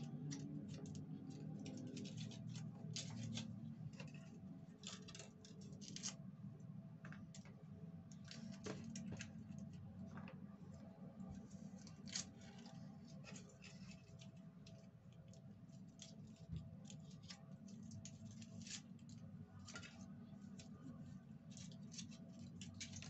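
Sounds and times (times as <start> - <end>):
small clicks and rustles: 0.0 - 6.4, 7.0 - 23.0
low steady hum: 0.0 - 23.0.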